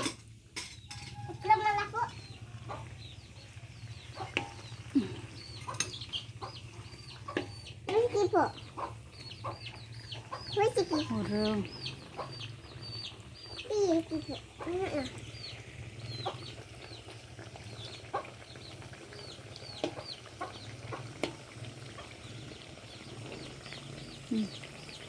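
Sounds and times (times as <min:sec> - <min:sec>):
chicks peeping: 0:01.2 - 0:21.1, 0:21.9 - 0:25.0
hen clucking: 0:01.2 - 0:23.5.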